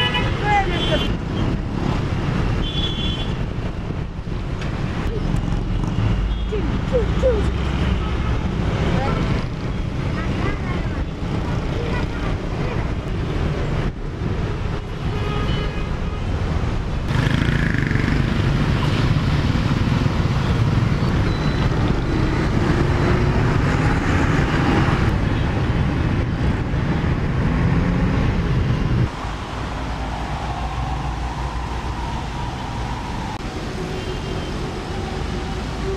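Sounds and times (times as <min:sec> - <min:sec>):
dense traffic engines rumbling: 0:00.0 - 0:35.9.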